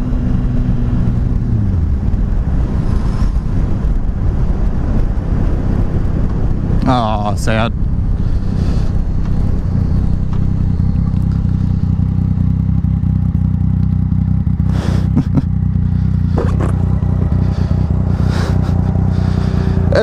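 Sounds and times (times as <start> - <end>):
rushes of air noise: 0.0 - 13.2, 14.4 - 20.0
motorcycle engine cruising: 0.0 - 20.0.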